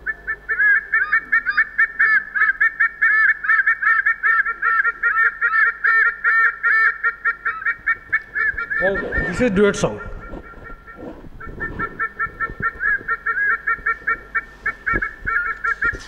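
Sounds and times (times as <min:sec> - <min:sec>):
eagles calling in duet: 0:00.0 - 0:16.0.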